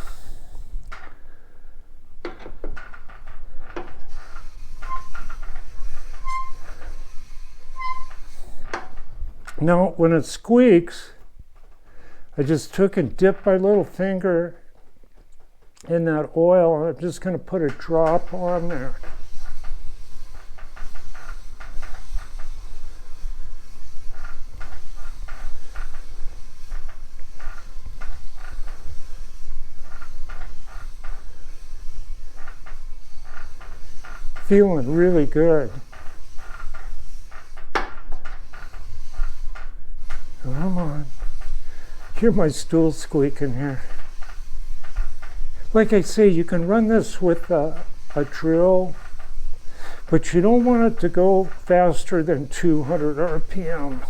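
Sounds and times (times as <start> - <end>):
barrel lap rubbing strokes: 2.5 - 14.8, 16.0 - 54.0
high metal squeaks: 2.8 - 9.5, 17.2 - 54.0.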